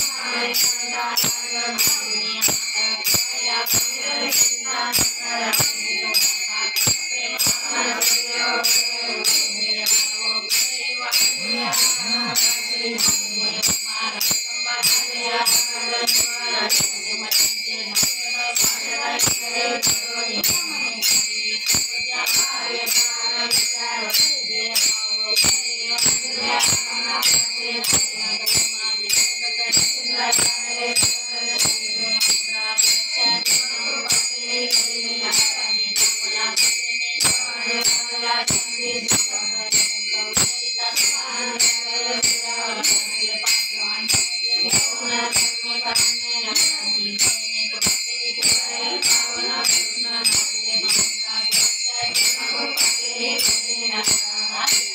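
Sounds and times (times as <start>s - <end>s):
hand cymbals struck: 0.0s - 54.9s.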